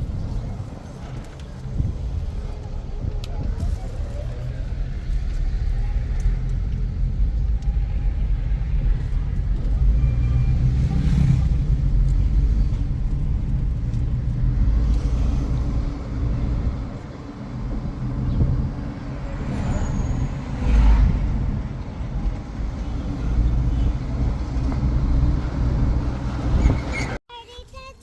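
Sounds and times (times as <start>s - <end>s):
car engine and road rumble: 0.0s - 27.2s.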